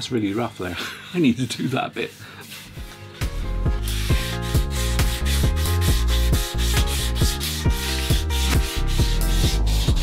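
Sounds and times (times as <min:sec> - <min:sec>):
hand sanding wood: 0:00.0 - 0:10.0.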